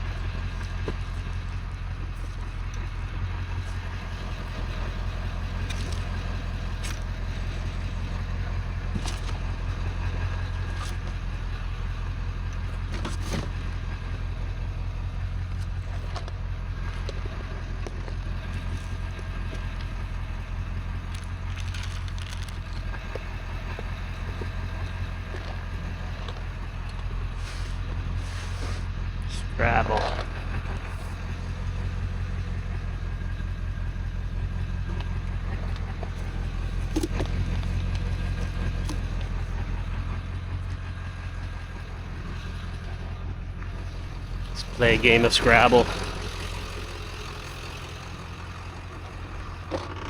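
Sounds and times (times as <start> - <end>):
vehicle engine and road drone: 0.0 - 50.0.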